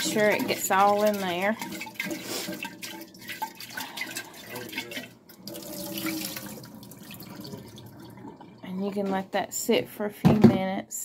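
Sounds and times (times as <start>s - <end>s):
water sloshing in glass jar: 0.0s - 9.2s.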